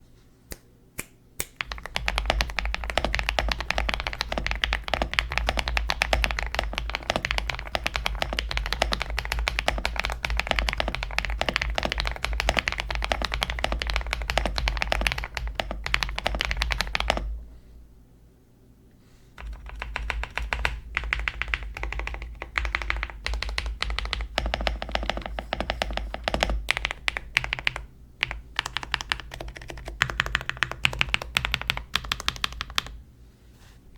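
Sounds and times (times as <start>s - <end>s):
typing on mechanical keyboard: 1.6s - 17.3s, 19.4s - 33.0s.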